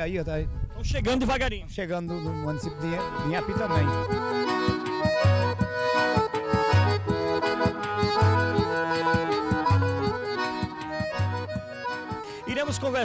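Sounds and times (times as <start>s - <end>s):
instrumental music with steady beat: 2.0s - 13.0s.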